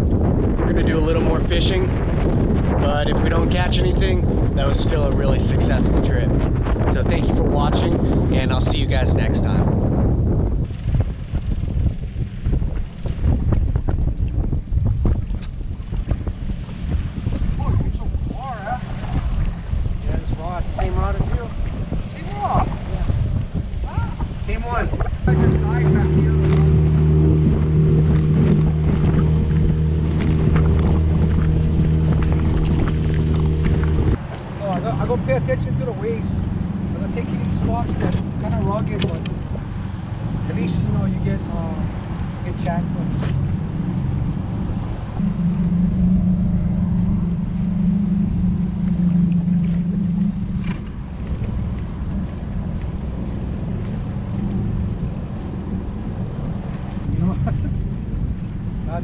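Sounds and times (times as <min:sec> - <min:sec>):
outboard motor droning: 0:00.0 - 0:59.0
water slapping a hull: 0:00.0 - 0:59.0
wind on microphone: 0:00.0 - 0:59.0.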